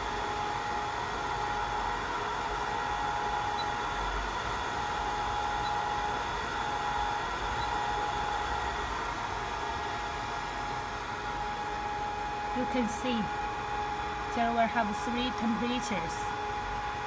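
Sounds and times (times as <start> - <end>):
hot-air heater blowing: 0.0 - 17.0.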